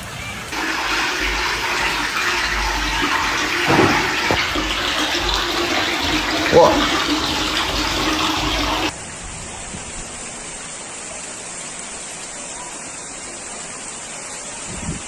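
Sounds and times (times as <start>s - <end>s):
floodwater rushing: 0.0s - 14.8s.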